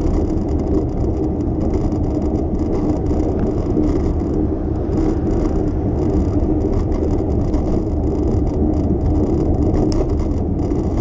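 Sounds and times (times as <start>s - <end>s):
bicycle mechanical ticking: 0.0s - 11.0s
bicycle tyres rumbling: 0.0s - 11.0s.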